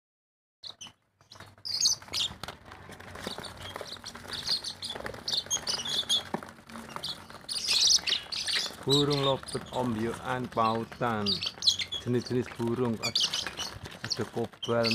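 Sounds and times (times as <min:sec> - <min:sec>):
lovebirds chirping: 0:00.6 - 0:14.9.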